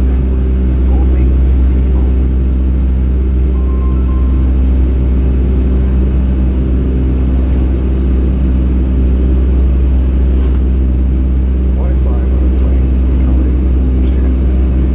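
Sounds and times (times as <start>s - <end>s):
airliner cabin drone: 0.0s - 14.9s
multi-tone hum: 0.0s - 14.9s.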